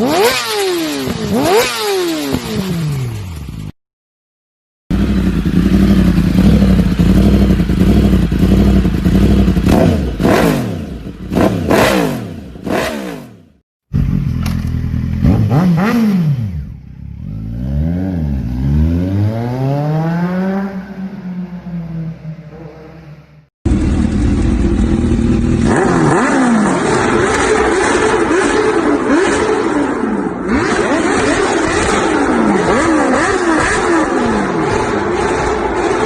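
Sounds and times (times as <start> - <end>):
motorcycle exhaust revving: 0.0 - 3.7, 4.9 - 36.0.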